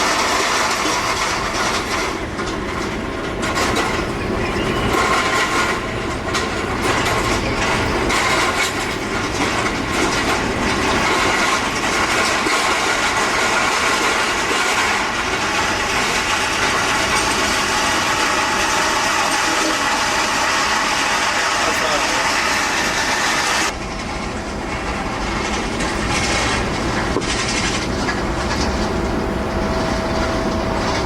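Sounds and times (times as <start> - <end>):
jet engines rushing and whining: 0.0 - 31.0.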